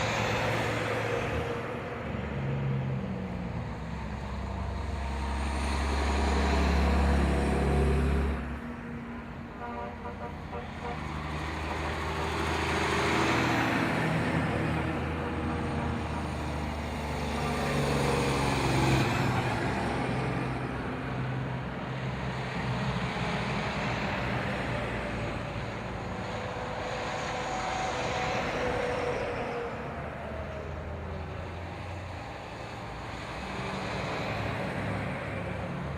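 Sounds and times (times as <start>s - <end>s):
trucks driving past: 0.0s - 35.9s.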